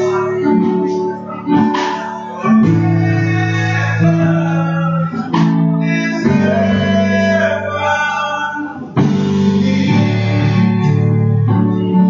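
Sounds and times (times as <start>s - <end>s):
gospel band with singers: 0.0s - 12.0s.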